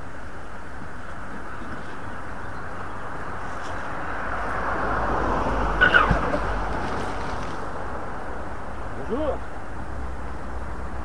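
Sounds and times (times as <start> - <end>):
car tyres on road: 0.0 - 11.0
steady background hiss: 0.0 - 11.0.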